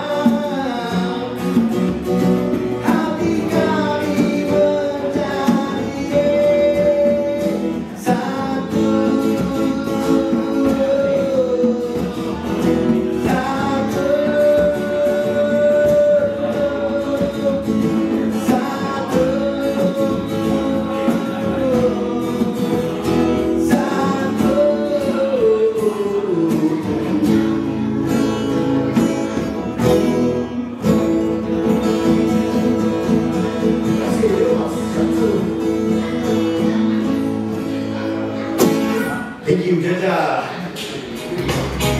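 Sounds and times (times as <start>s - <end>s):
man singing: 0.0s - 40.7s
acoustic guitar strumming: 0.0s - 41.9s.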